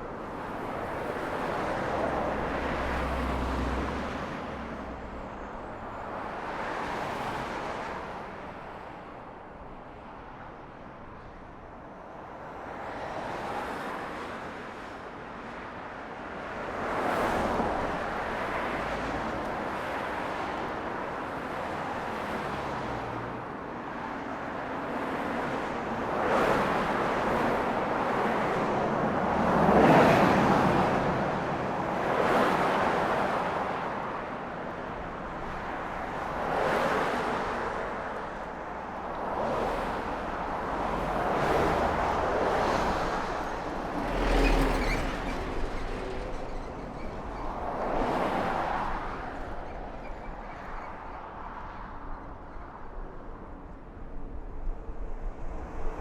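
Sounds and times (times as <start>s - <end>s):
steady traffic hum: 0.0s - 56.0s
cars passing: 0.2s - 9.1s, 12.5s - 53.5s.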